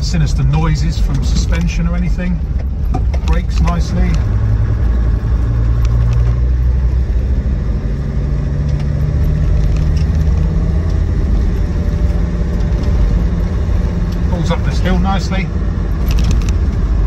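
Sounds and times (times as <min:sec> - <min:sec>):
diesel engine pulling uphill: 0:00.0 - 0:17.0
road noise: 0:00.0 - 0:17.0.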